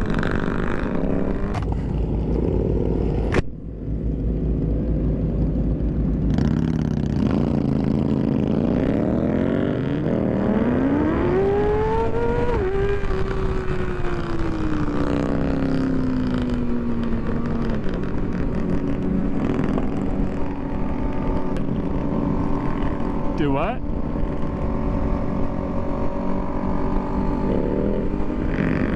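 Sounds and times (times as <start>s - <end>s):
motorcycle engine accelerating: 0.0s - 28.9s.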